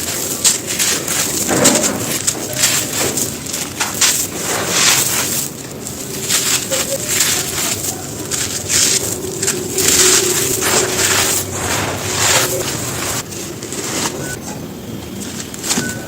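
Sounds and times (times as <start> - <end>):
stony chunks crunching: 0.0 - 16.0.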